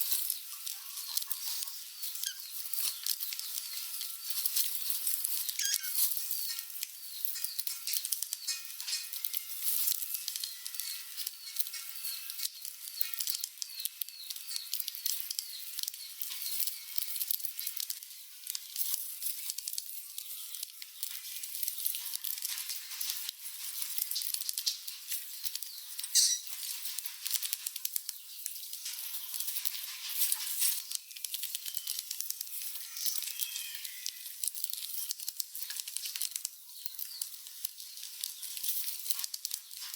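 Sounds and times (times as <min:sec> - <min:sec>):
rats squeaking: 0:00.0 - 0:17.9, 0:18.8 - 0:36.2
rats scratching and rummaging: 0:00.0 - 0:39.9.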